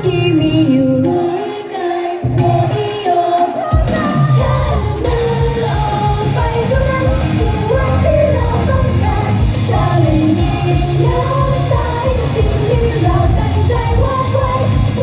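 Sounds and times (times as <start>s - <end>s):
loud amplified pop music: 0.0s - 15.0s
women singing into microphones: 0.0s - 15.0s.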